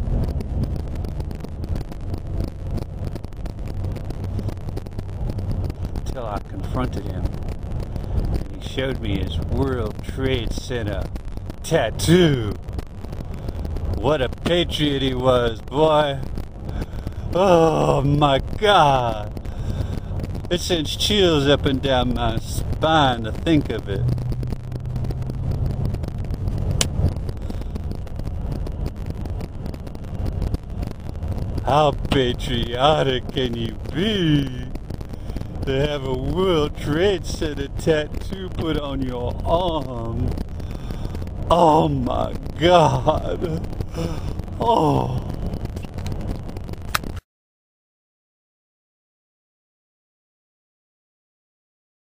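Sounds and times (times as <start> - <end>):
car engine and tyre rumble: 0.0 - 47.2
wind noise on microphone: 0.0 - 47.2.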